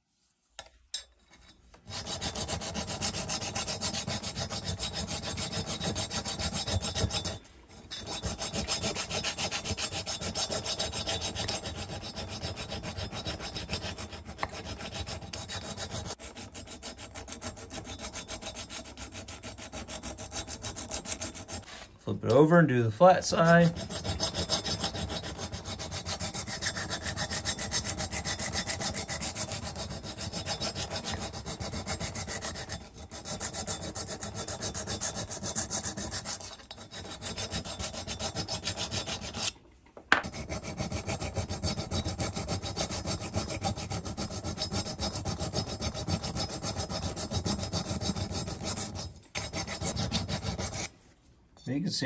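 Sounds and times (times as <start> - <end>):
metal file rasping: 1.0 - 21.9, 23.4 - 39.6, 40.2 - 51.0.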